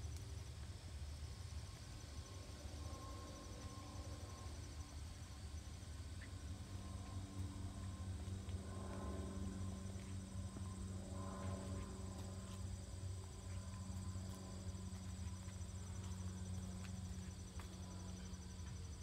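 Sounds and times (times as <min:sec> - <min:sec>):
insects trilling: 0:00.0 - 0:19.0
low hum: 0:00.0 - 0:19.0.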